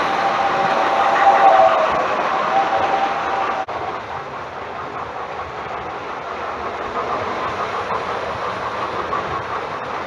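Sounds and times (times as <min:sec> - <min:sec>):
metal wheels rattling on rails: 0:00.0 - 0:10.0.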